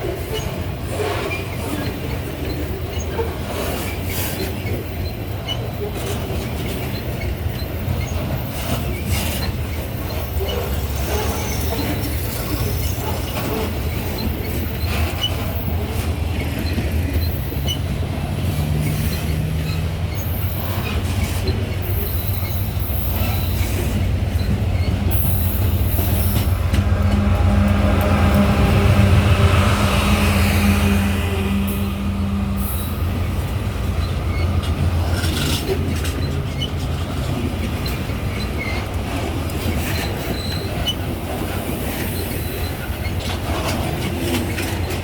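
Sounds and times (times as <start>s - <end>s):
train wheels rumbling on rails: 0.0s - 45.0s
wheel squeal: 0.2s - 27.3s, 32.6s - 45.0s.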